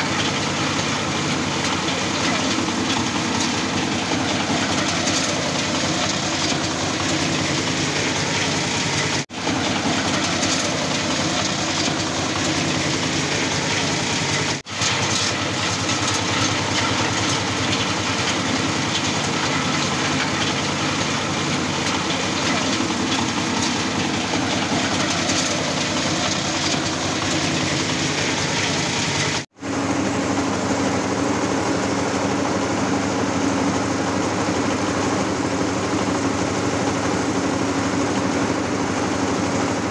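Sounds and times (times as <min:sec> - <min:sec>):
husking machine running: 0:00.0 - 0:39.9.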